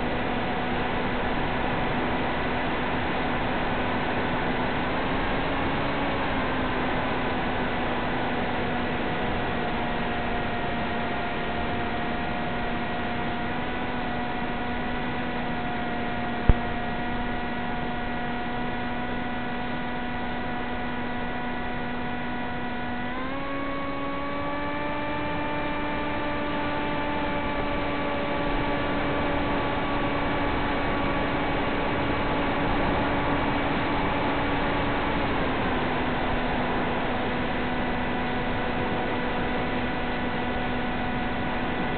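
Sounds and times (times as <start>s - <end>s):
electric motor and propeller whine: 0.0s - 41.9s.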